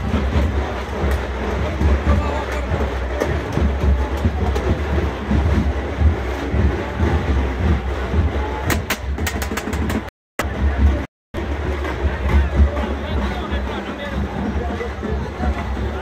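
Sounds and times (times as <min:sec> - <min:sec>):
dense crowd: 0:00.0 - 0:16.0
procession drums beating heavily: 0:00.0 - 0:16.0.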